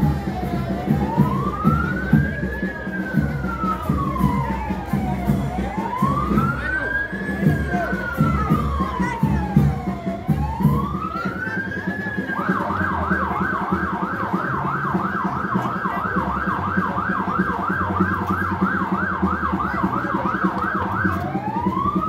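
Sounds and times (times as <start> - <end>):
emergency siren wail and yelp: 0.0 - 22.0.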